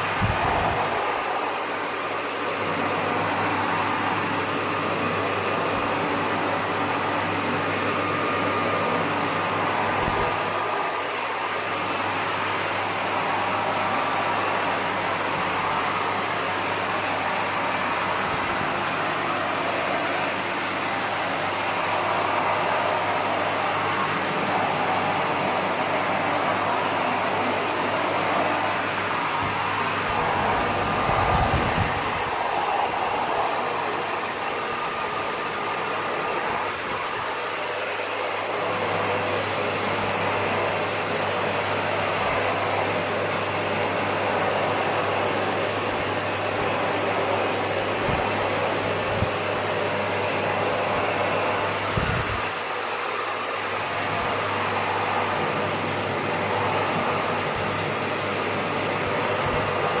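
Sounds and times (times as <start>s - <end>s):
vacuum cleaner running: 0.0s - 60.0s.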